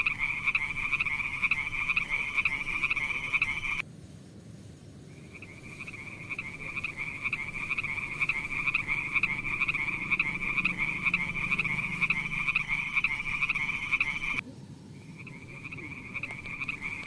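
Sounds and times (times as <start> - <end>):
frog croaking: 0.0 - 3.8, 5.1 - 17.0.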